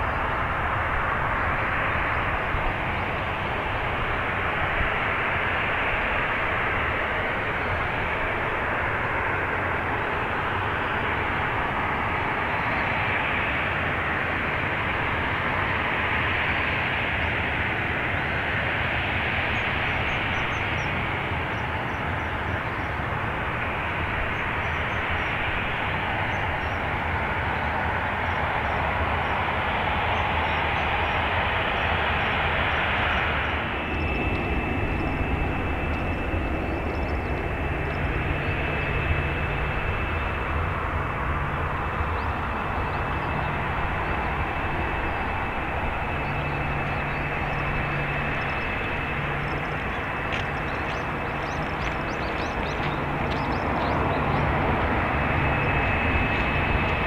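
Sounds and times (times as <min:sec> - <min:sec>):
jet engine high whine: 0:00.0 - 0:57.0
jet engines rushing at takeoff: 0:00.0 - 0:57.0.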